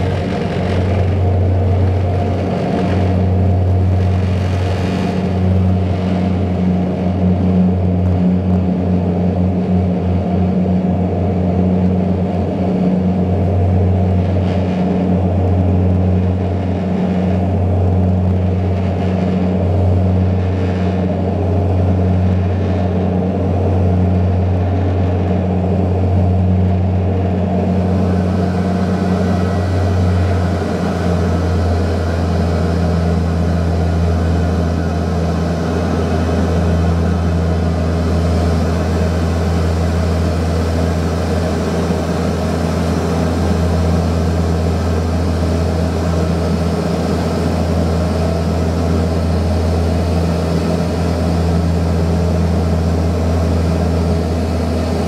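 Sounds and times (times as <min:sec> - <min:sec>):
turboprop cabin drone: 0:00.0 - 0:55.0.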